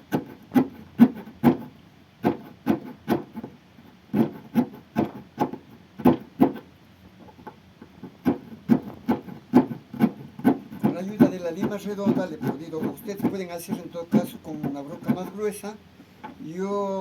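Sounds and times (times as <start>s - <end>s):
file rasping in cane: 0.0s - 15.8s.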